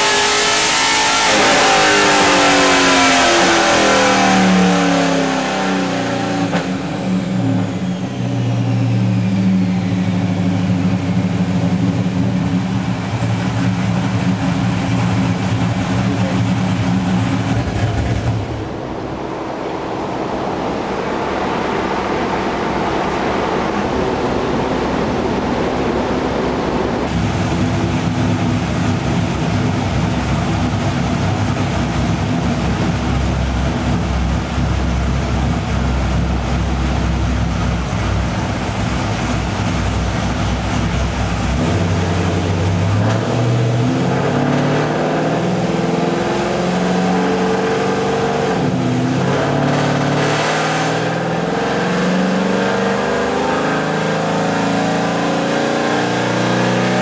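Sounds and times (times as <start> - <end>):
car engine running on dyno: 0.0 - 57.0
cooling fan blowing: 0.0 - 57.0.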